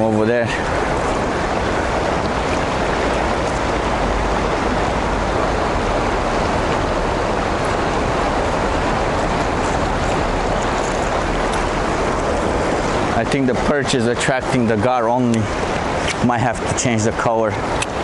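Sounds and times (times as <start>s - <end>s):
river water rushing through dam: 0.0s - 18.0s.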